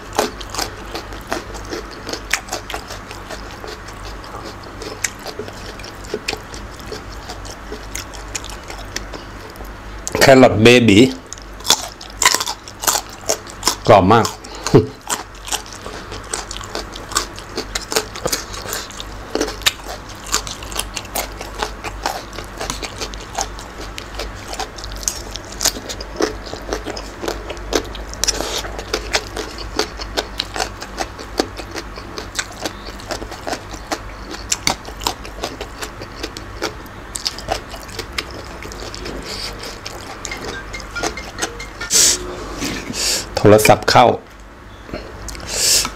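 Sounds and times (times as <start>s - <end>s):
chewing and crunching: 0.0s - 10.3s, 11.1s - 41.7s, 44.4s - 45.9s
low steady hum: 0.0s - 45.9s.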